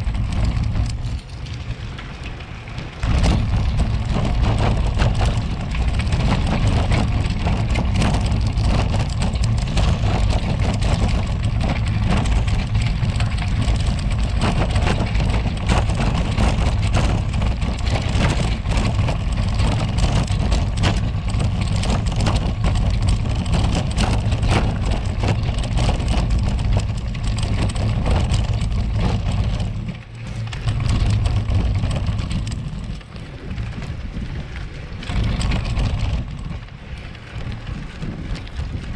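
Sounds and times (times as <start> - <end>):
bike rattling over cobblestones: 0.0 - 38.9
low rumble: 0.0 - 38.9.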